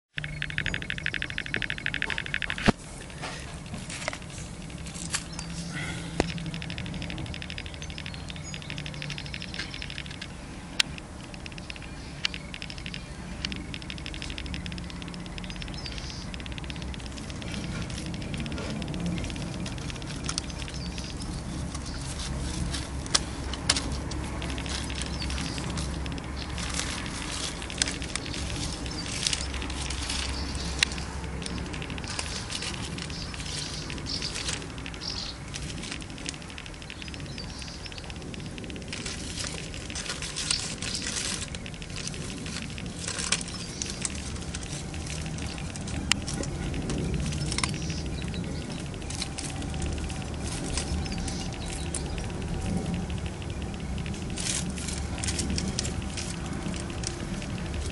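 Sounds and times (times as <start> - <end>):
leaves and gravel rustling: 0.1 - 57.9
sharp clicks: 0.1 - 57.9.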